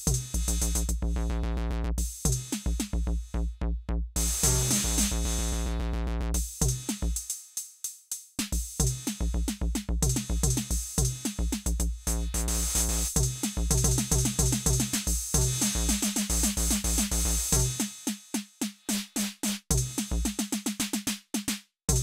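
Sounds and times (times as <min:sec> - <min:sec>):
drum machine electronic beat: 0:00.0 - 0:22.0.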